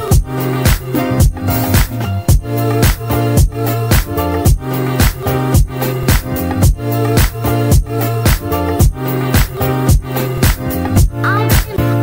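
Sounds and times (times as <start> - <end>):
dance music with bassline: 0.0 - 12.0.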